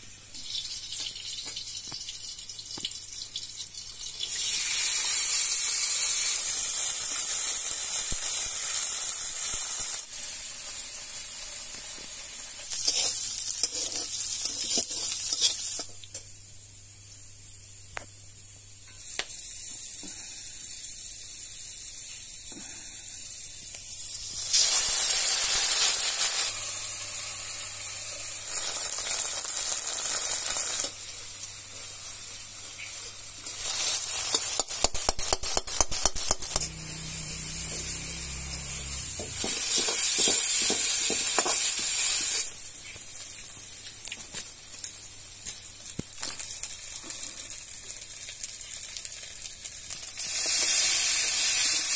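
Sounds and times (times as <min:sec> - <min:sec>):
food sizzling in hot oil: 0:00.0 - 0:51.9.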